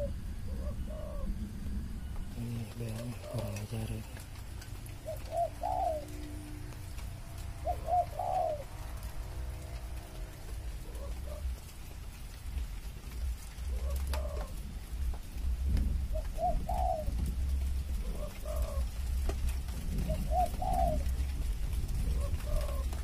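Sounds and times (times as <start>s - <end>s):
doves cooing: 0.0s - 23.0s
low rumble: 0.0s - 23.0s.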